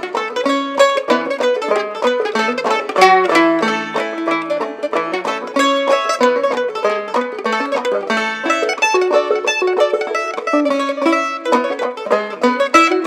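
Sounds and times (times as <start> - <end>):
banjo: 0.0 - 13.0
mandolin: 0.0 - 13.0.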